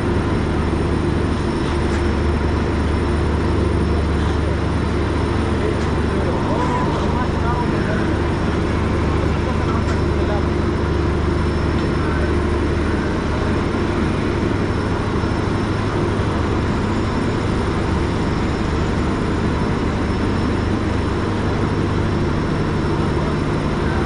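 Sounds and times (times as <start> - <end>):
machinery rumble and hum: 0.0 - 24.0.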